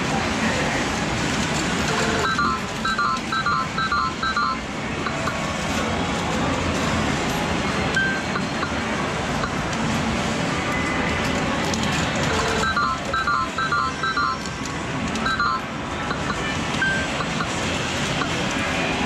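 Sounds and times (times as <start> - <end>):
arcade machines din: 0.0 - 19.0.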